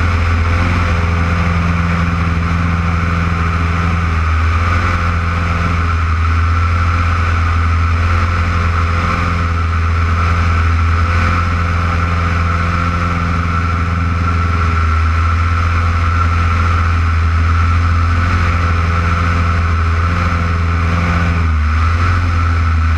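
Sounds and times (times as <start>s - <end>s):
propeller airplane engine droning: 0.0s - 22.9s.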